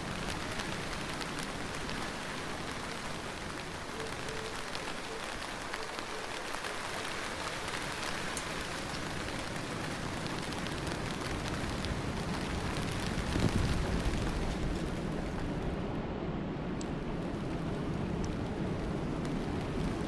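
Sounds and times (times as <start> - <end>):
heavy rain pattering: 0.0 - 16.0, 16.7 - 20.0.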